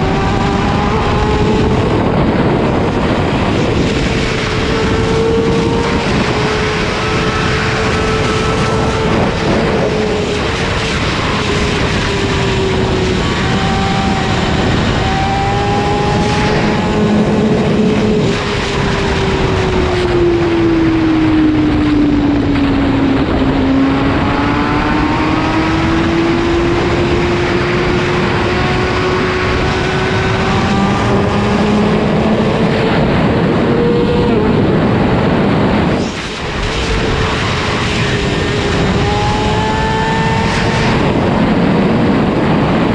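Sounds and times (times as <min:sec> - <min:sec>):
motorcycle engine revving high: 0:00.0 - 0:42.9
steady rushing noise: 0:00.0 - 0:42.9.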